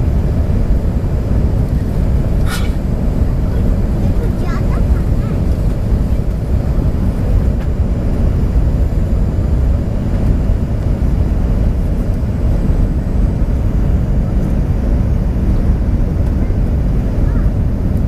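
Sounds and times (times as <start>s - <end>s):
airliner engines rumbling in cabin: 0.0s - 18.0s.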